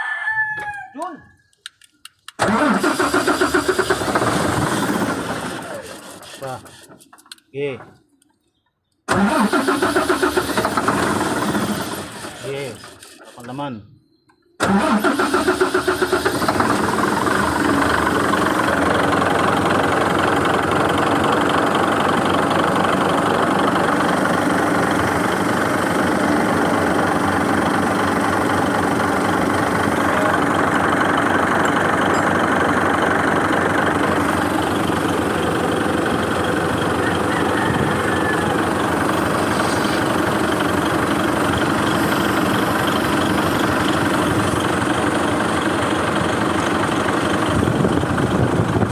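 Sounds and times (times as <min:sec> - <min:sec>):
diesel engine idling: 0:02.1 - 0:07.8, 0:09.1 - 0:13.8, 0:14.6 - 0:48.9.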